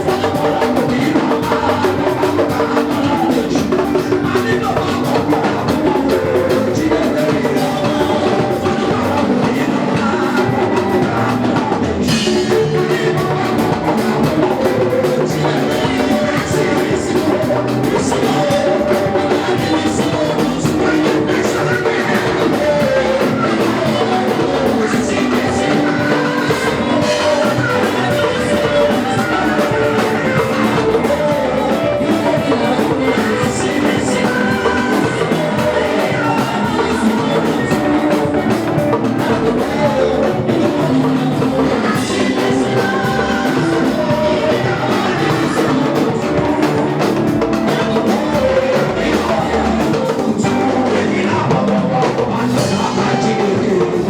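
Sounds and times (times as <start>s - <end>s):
band with drums and guitar: 0.0s - 54.0s
person singing: 0.0s - 54.0s.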